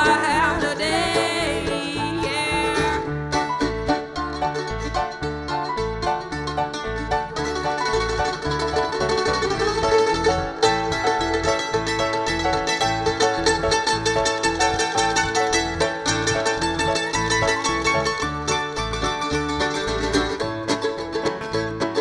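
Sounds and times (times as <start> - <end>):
plucked string picking: 0.0 - 22.0
steady bass line: 0.0 - 22.0.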